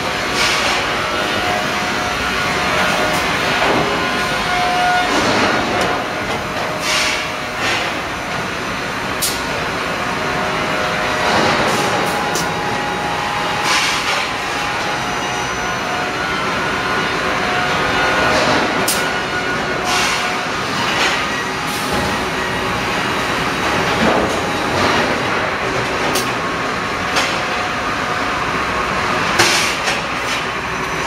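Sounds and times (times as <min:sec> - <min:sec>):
roller conveyor clatter and rumble: 0:00.0 - 0:31.0.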